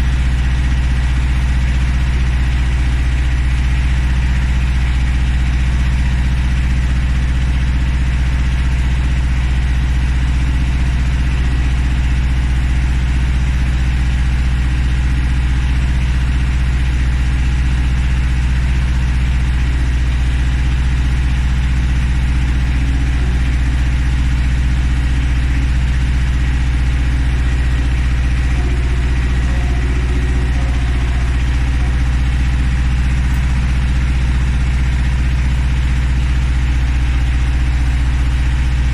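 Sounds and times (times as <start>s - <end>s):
tractor engine running steadily: 0.0s - 38.9s.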